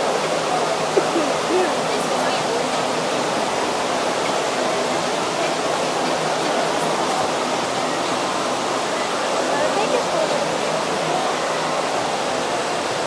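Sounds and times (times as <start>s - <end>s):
indoor waterfall rushing: 0.0s - 13.0s.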